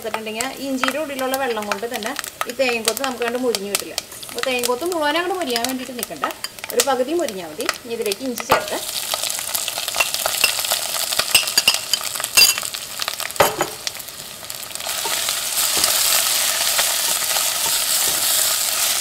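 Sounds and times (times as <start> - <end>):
ginger frying in oil: 0.0 - 19.0.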